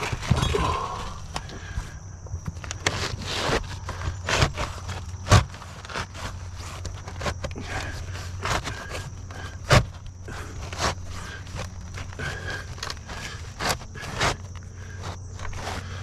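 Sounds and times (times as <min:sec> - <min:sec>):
shingles scraping and shuffling: 0:00.0 - 0:16.0
steady low hum: 0:00.0 - 0:16.0.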